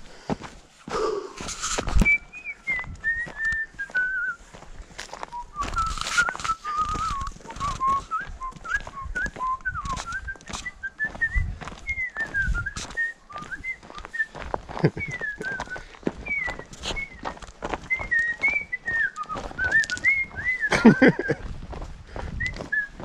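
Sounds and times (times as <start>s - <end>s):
footsteps on a trail: 0.0s - 23.0s
person whistling a tune: 1.7s - 21.4s, 22.3s - 23.0s.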